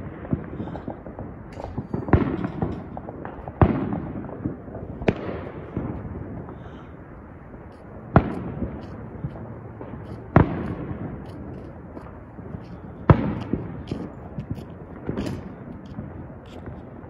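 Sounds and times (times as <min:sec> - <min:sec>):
firework pops and crackles: 0:00.0 - 0:06.6, 0:07.6 - 0:17.0
fireworks booming: 0:00.0 - 0:17.0.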